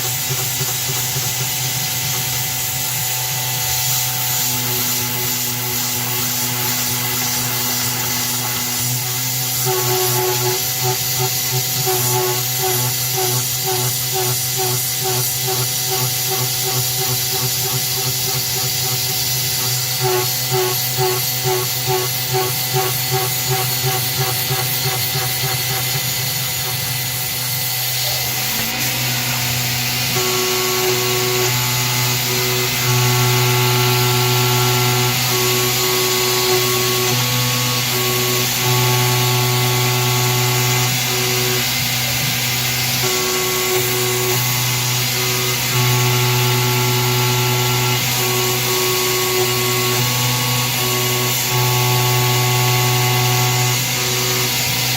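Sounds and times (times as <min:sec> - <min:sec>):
machine axis whine: 0:00.0 - 0:54.9
milling machine cutting: 0:00.0 - 0:54.9
mist coolant hiss: 0:00.0 - 0:54.9.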